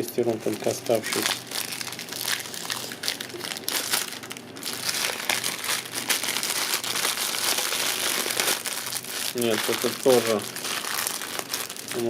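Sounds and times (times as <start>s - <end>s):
plastic packaging crinkling: 0.3s - 12.0s.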